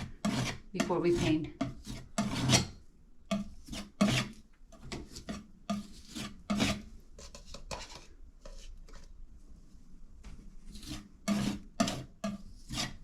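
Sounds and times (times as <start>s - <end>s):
blade scraping drywall compound: 0.0s - 9.1s, 10.6s - 13.0s.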